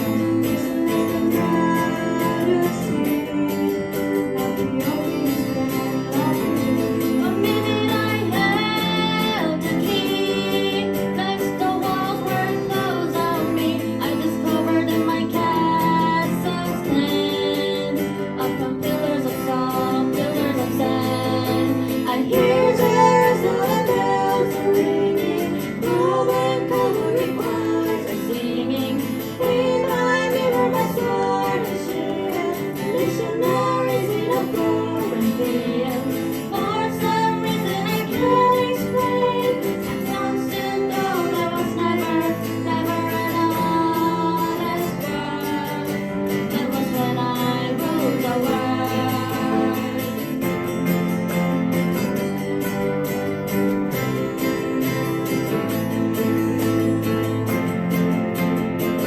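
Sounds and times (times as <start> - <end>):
person singing: 0.0 - 57.4
strummed acoustic guitar: 0.0 - 59.0.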